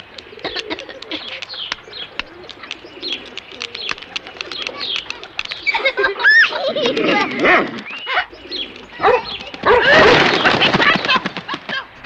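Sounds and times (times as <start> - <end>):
birds chirping: 0.0 - 12.0
low cooing calls: 0.0 - 12.0.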